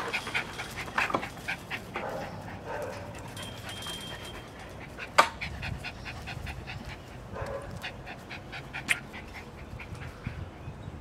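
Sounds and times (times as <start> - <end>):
dog panting rapidly: 0.0 - 3.0, 3.6 - 10.5.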